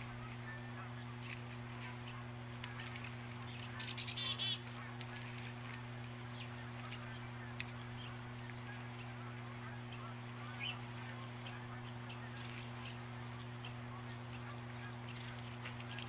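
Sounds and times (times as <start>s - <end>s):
birds chirping: 0.0s - 16.0s
electrical hum: 0.0s - 16.0s
loud repeated bird call notes: 1.8s - 16.0s.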